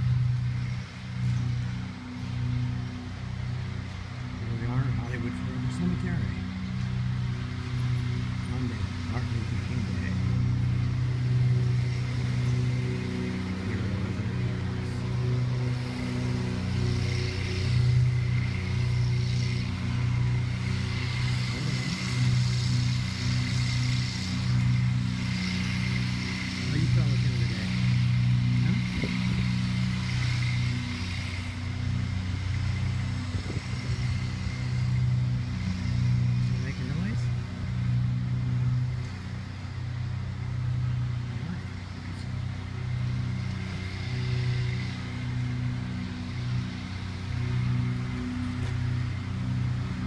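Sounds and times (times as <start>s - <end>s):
low engine hum: 0.0s - 50.0s.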